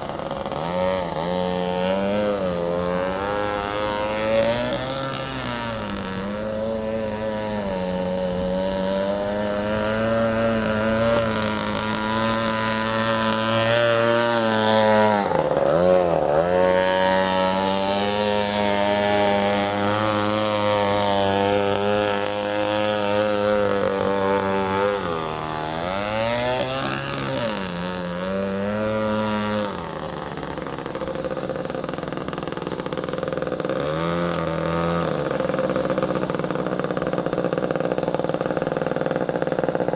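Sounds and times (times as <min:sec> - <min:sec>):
two-stroke engine running hard: 0:00.0 - 0:39.9.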